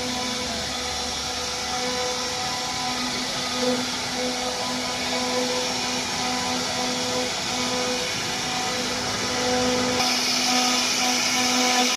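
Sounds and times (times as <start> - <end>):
router spindle whirring and cutting: 0.0 - 11.9.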